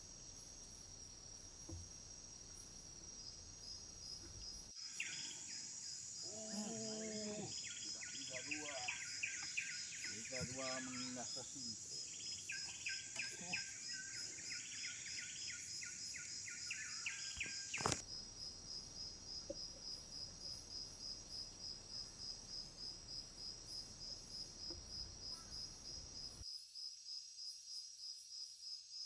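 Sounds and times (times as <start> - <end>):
dense insect chirring: 0.0 - 26.4
insects chirring in pulses: 0.0 - 26.7.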